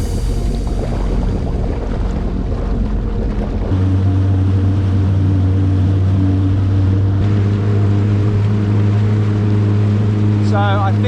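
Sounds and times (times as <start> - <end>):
jet ski engine droning: 0.0 - 11.0.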